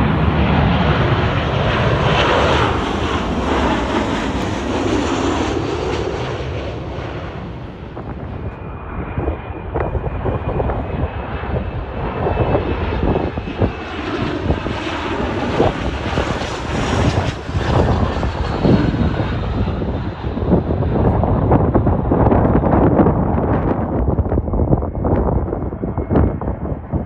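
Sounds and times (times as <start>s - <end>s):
jet engines whining: 0.0s - 27.0s
wind gusting on microphone: 0.0s - 27.0s.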